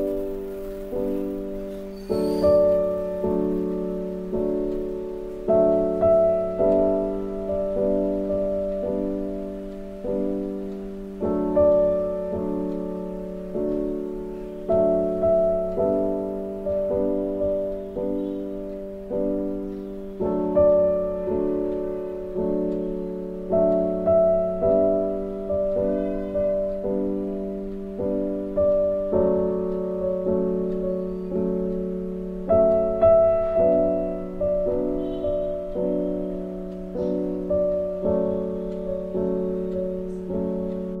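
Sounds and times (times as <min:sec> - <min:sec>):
piano notes and chords: 0:00.0 - 0:41.0.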